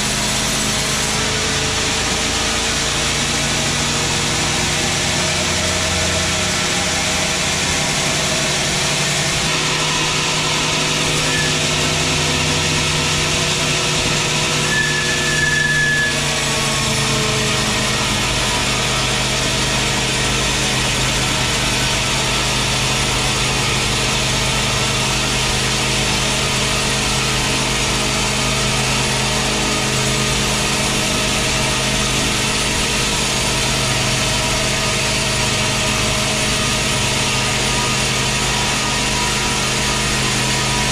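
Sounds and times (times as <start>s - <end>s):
band saw ripping a log: 0.0s - 40.9s.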